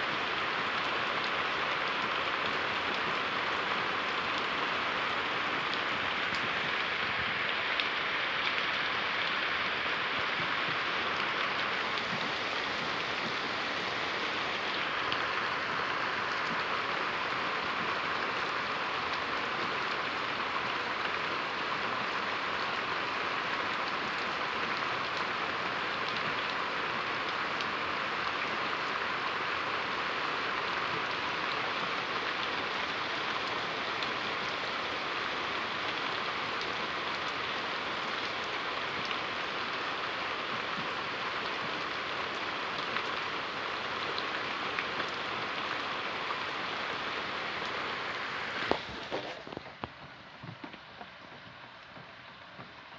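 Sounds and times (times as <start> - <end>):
torrential rain on wet ground: 0.0 - 52.9.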